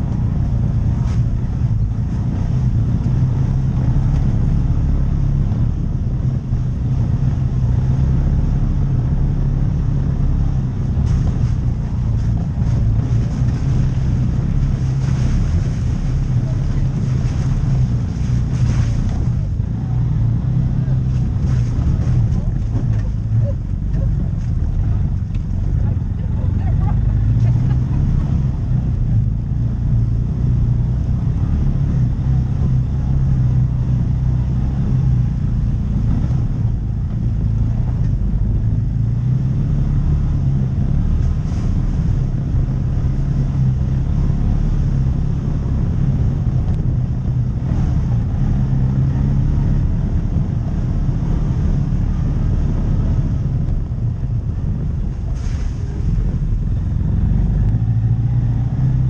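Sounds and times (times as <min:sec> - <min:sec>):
tyres rumbling on rough ground: 0:00.0 - 0:59.0
utility vehicle engine droning: 0:00.0 - 0:59.0.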